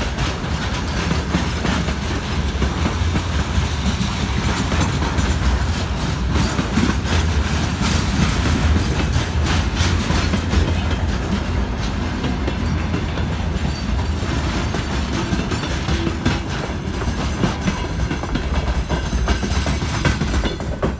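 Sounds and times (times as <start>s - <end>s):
freight train rumbling: 0.0s - 20.9s
wheels clattering over rail joints: 0.0s - 20.9s.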